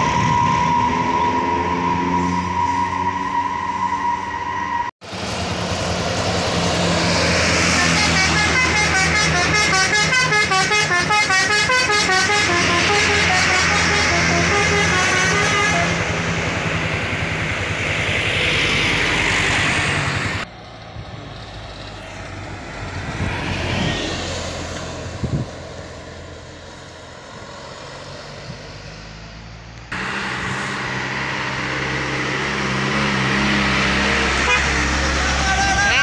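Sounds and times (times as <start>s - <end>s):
bus engine passing: 0.0s - 36.0s
truck engine approaching: 0.0s - 36.0s.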